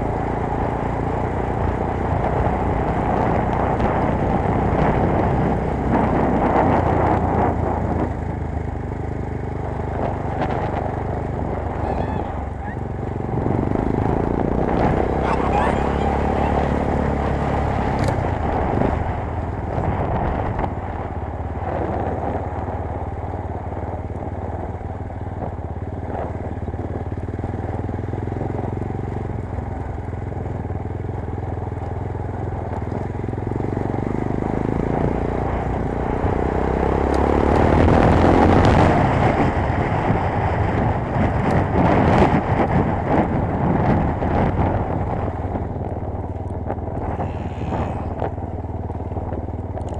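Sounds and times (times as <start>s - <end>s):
motorcycle engine running: 0.0s - 49.9s
road and wind noise: 0.0s - 49.9s.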